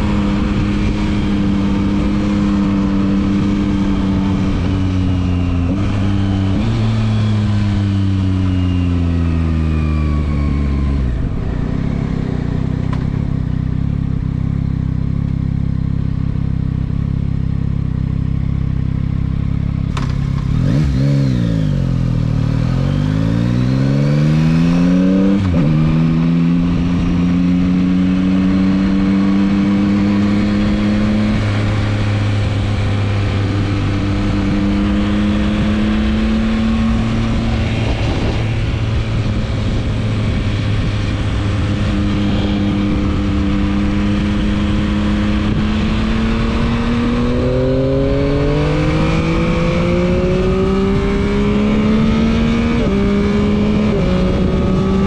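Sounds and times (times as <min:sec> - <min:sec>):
motorcycle engine while riding: 0:00.0 - 0:55.0.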